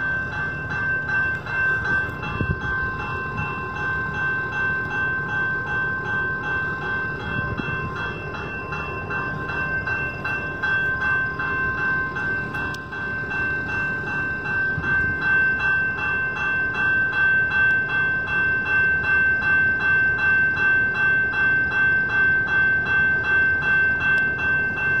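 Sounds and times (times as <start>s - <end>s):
railroad crossing bell ringing: 0.0s - 25.0s.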